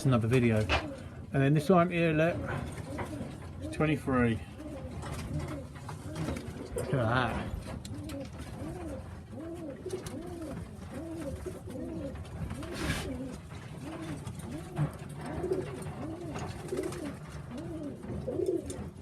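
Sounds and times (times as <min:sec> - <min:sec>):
pigeons cooing: 0:00.0 - 0:19.0
wings rustling: 0:02.3 - 0:19.0.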